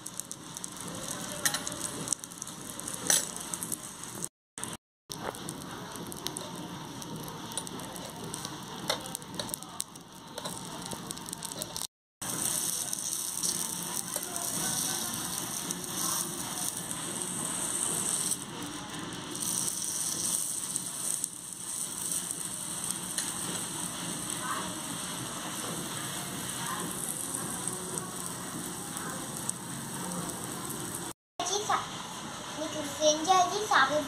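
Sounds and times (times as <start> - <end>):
oil sizzling: 0.0 - 34.0.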